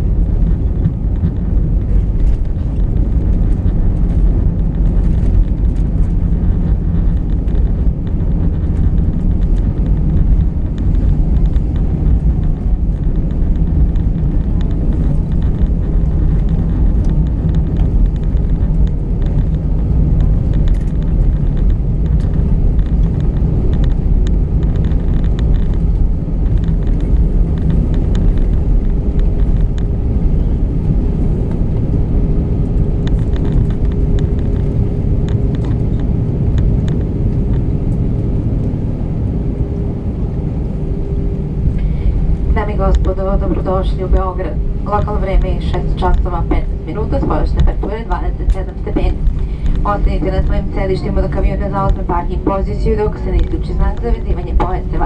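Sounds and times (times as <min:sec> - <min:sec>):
airplane cabin rumble: 0:00.0 - 0:55.0
faint steady hum: 0:00.0 - 0:55.0.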